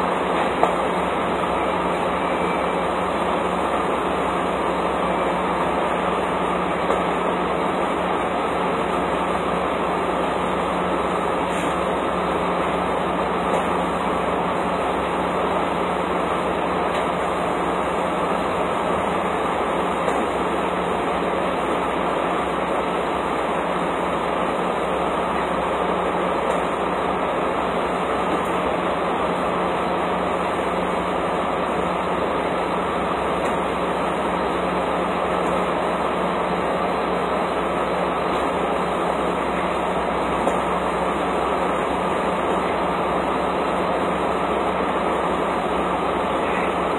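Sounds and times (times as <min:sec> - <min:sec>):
fuel rushing through pump nozzle: 0:00.0 - 0:46.9
machinery drone: 0:00.0 - 0:46.9.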